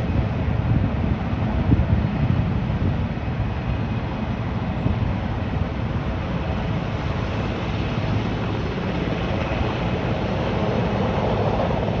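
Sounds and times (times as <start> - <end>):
helicopter rotor and engines: 0.0 - 12.0.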